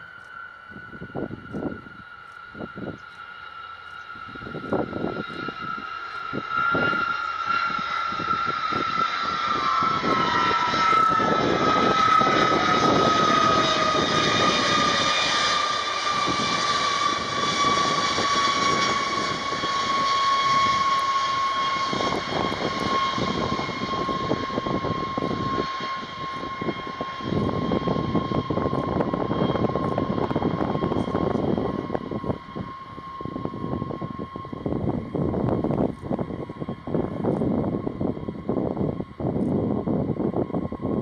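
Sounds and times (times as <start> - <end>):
jet engines whining: 0.0 - 41.0
jet noise rumble: 0.0 - 41.0
lower whine dropping in pitch: 0.0 - 41.0.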